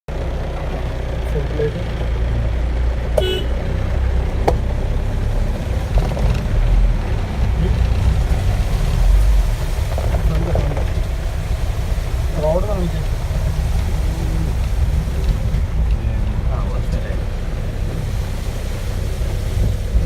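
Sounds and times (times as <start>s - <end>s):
engine and road rumble: 0.1s - 20.0s.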